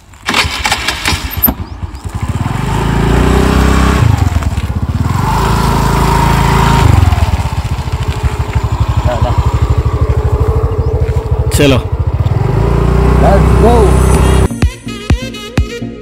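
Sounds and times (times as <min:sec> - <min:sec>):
scooter engine starting and revving: 0:00.2 - 0:14.5.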